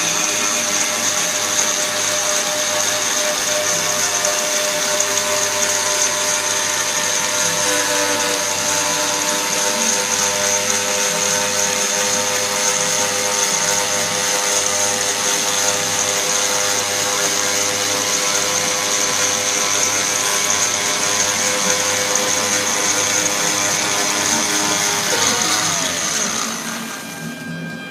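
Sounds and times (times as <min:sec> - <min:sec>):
router spindle whining: 0:00.0 - 0:27.9.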